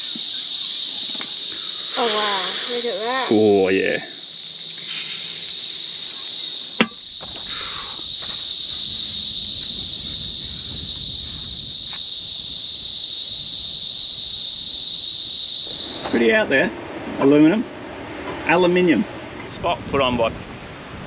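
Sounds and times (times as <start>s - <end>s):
night insects chirring: 0.0s - 21.0s.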